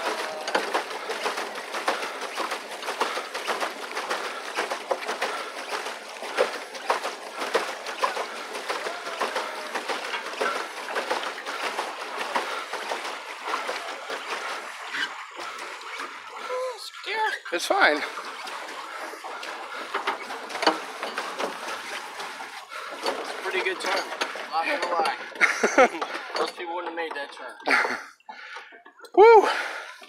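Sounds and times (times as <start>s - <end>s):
paddle wheel splashing water: 0.0s - 30.0s.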